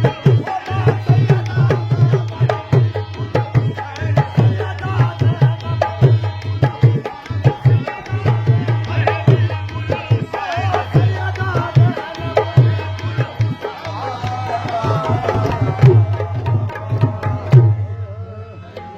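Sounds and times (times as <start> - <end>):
dholak drum rhythm: 0.0 - 18.9.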